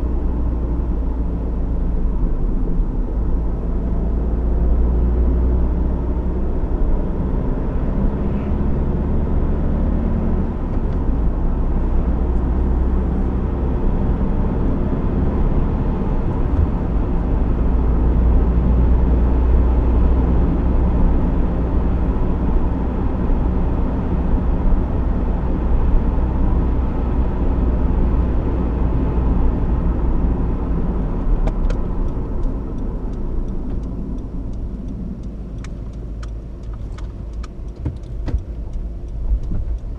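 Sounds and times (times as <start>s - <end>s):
diesel engine rumble: 0.0s - 39.9s
road noise: 0.0s - 39.9s.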